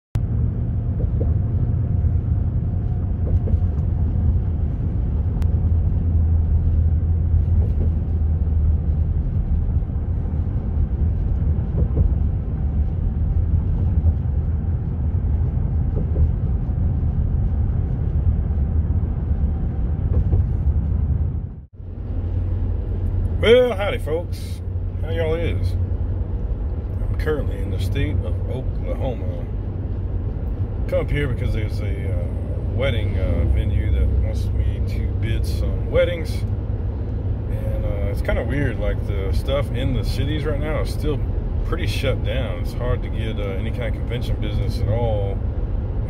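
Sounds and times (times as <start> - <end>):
road and engine rumble in vehicle: 0.1 - 46.0.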